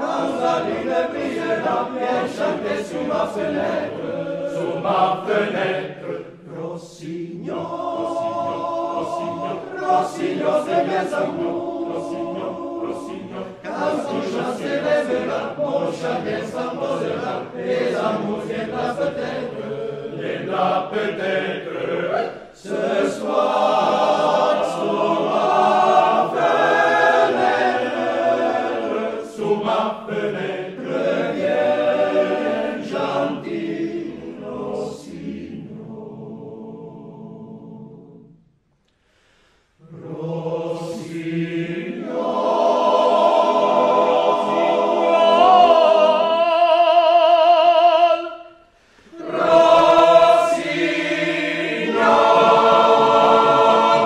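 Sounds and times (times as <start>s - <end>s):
male choir singing: 0.0s - 38.2s, 39.8s - 48.5s, 49.1s - 54.0s.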